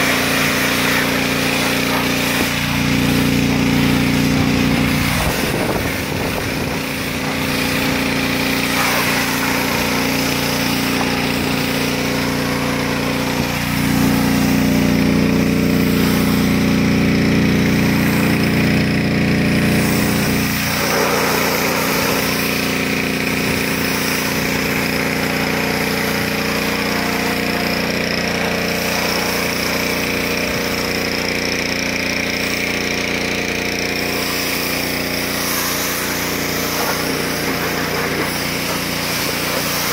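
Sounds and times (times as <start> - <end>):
pressure washer motor running: 0.0 - 39.9
water spraying onto car: 0.0 - 39.9.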